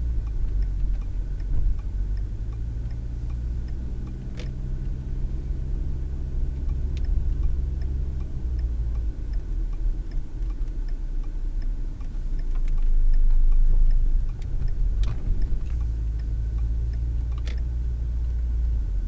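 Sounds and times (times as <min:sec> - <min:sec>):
car turn signal ticking: 0:00.0 - 0:19.0
engine and road rumble: 0:00.0 - 0:19.0.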